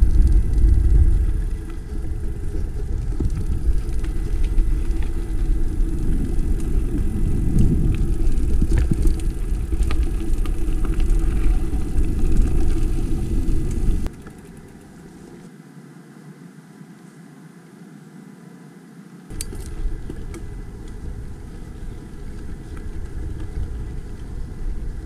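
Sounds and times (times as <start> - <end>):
bike rumbling over rocks: 0.0 - 14.8, 19.3 - 25.0
bike clicks and rattles: 0.0 - 15.4, 19.3 - 25.0.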